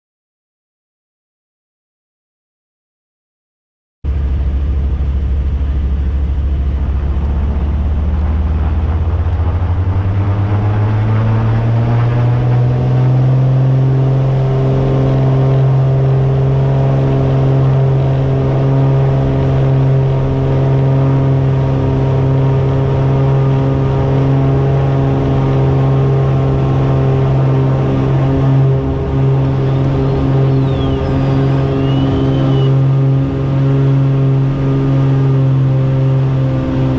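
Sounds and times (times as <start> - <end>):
propeller plane engines droning: 4.1 - 36.9.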